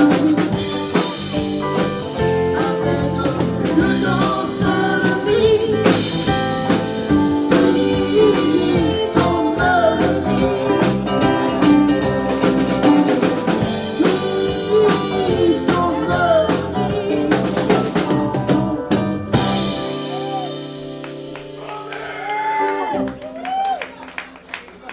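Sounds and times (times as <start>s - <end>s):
drum kit: 0.0s - 23.7s
live rock band playing: 0.0s - 23.7s
keyboard: 0.0s - 24.8s.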